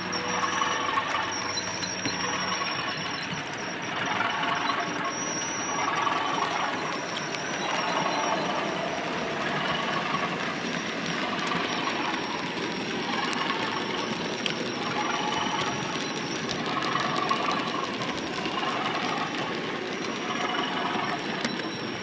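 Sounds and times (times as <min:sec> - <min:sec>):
faint high motor whine: 0:00.0 - 0:22.0.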